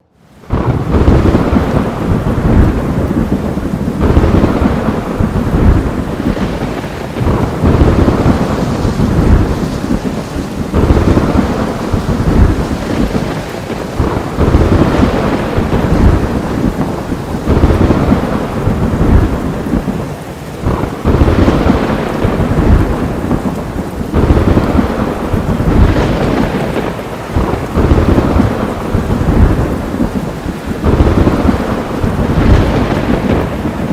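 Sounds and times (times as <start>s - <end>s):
heavy rain pouring: 0.0s - 33.9s
thunder rumbling: 0.0s - 33.9s.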